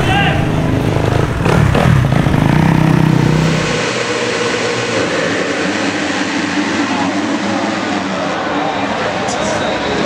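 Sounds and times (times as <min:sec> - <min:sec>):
dirt bike engines revving: 0:00.0 - 0:10.0
track noise: 0:00.0 - 0:10.0.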